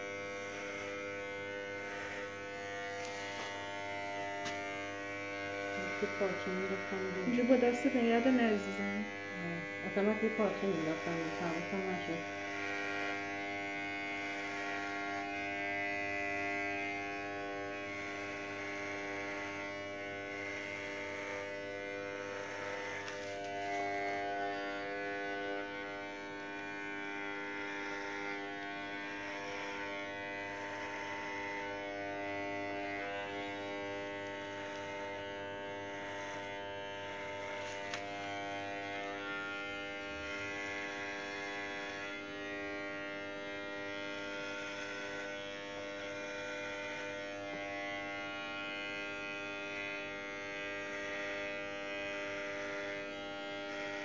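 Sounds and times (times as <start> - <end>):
electric hair clippers buzzing: 0.0 - 54.0.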